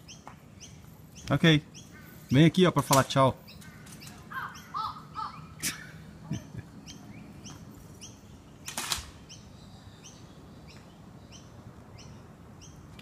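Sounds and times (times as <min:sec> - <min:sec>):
high bird chirp: 0:00.0 - 0:02.6, 0:03.4 - 0:13.0
birds calling: 0:00.0 - 0:13.0.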